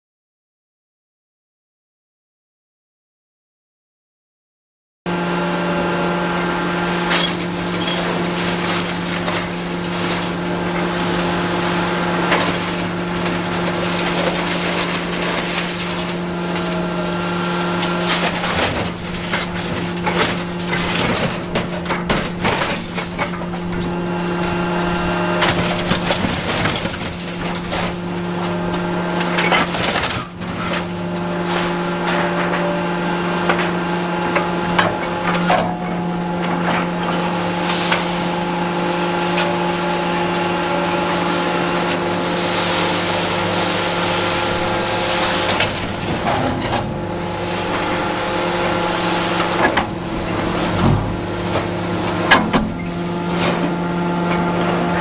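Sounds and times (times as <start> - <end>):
excavator engine running: 5.1 - 55.0
hydraulic whine: 5.1 - 55.0.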